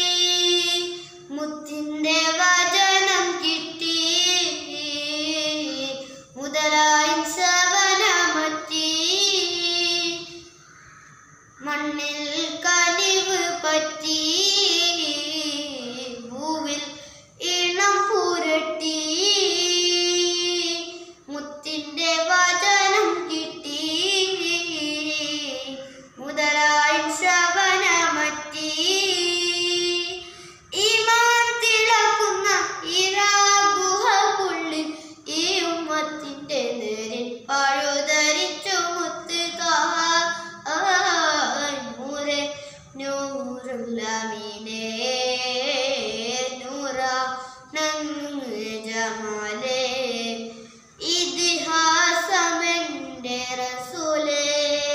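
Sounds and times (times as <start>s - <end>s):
boy singing unaccompanied: 0.0s - 10.8s, 11.4s - 54.9s.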